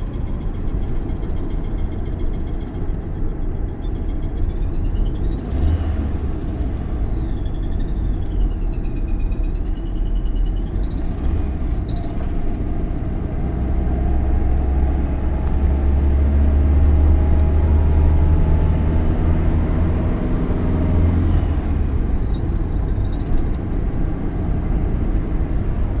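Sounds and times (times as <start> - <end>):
van engine rumbling: 0.0 - 26.0.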